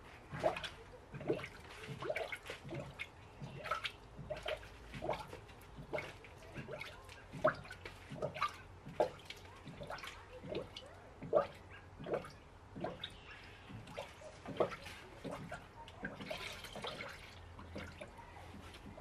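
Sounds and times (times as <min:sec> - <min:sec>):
coolant gurgling and bubbling: 0:00.0 - 0:19.0.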